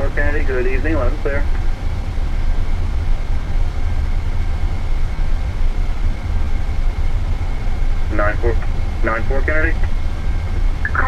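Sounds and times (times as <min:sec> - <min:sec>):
aircraft cockpit rumble: 0:00.0 - 0:11.0
faint high whine: 0:00.0 - 0:11.0.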